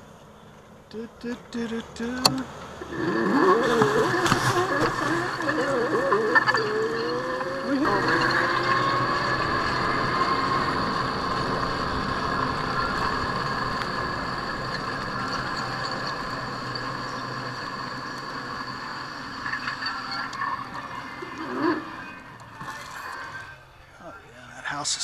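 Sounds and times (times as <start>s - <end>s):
electric motor whining: 1.6s - 23.6s.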